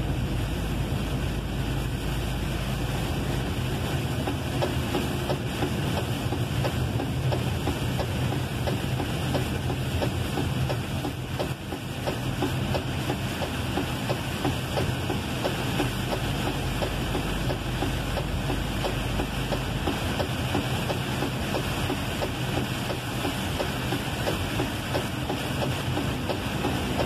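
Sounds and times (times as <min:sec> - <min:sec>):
rain hitting windshield: 0:00.0 - 0:27.0
tyres hissing on wet road: 0:00.0 - 0:27.0.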